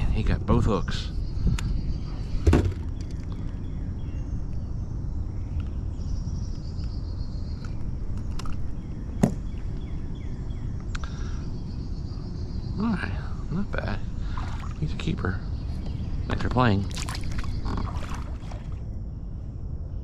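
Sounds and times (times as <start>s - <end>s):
faint high bird chirps: 0.0s - 18.9s
steady low rumble: 0.0s - 20.0s.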